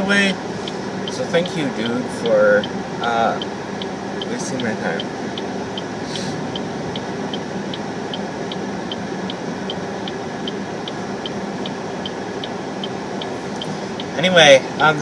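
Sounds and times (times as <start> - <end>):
car engine hum: 0.0 - 15.0
road noise in cabin: 0.0 - 15.0
turn signal clicking: 0.6 - 2.8, 3.4 - 5.9, 6.5 - 14.2.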